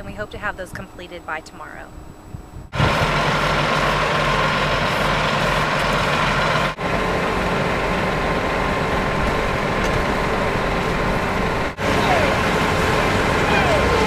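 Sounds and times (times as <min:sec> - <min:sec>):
heavy diesel engine running: 0:02.7 - 0:14.0.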